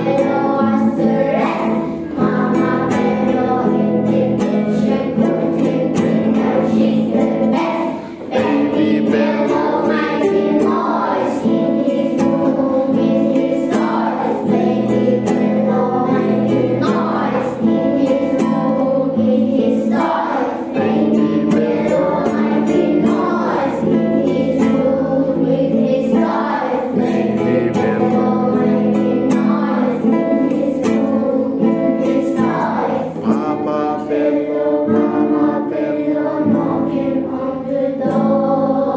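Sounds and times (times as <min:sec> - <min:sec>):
acoustic guitar strumming: 0:00.0 - 0:38.9
children singing: 0:00.0 - 0:38.9.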